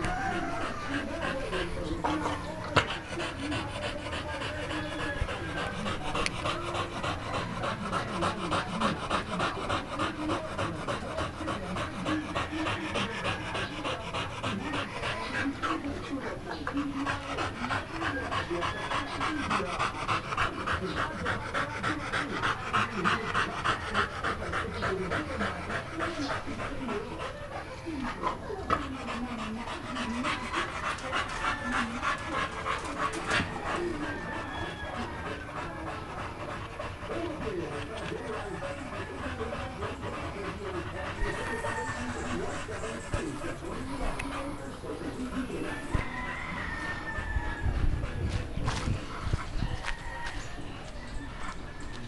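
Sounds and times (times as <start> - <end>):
dog panting: 0.0 - 52.0.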